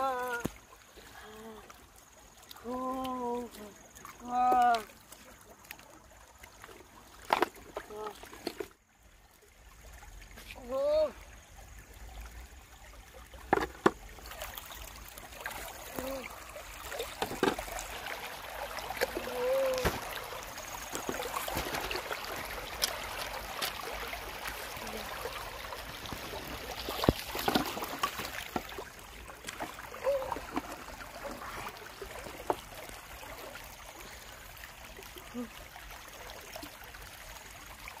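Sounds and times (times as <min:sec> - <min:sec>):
river water trickling: 0:00.0 - 0:38.0.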